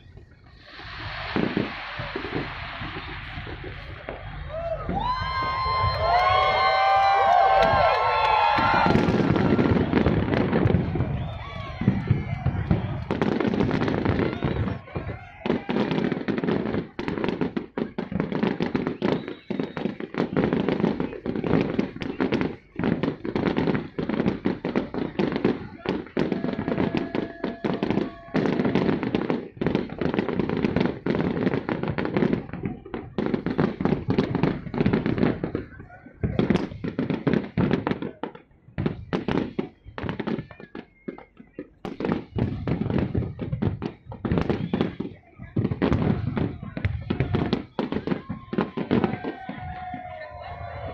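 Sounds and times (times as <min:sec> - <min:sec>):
fireworks banging and crackling: 0:00.0 - 0:50.9.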